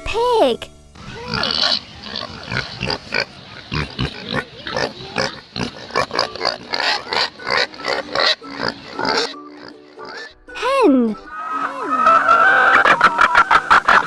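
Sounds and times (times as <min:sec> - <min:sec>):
pigs grunting and squealing: 0:01.0 - 0:14.0.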